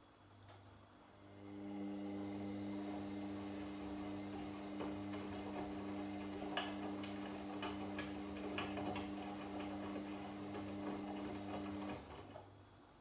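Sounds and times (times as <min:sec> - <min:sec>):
washing machine motor hum: 0:01.1 - 0:12.7.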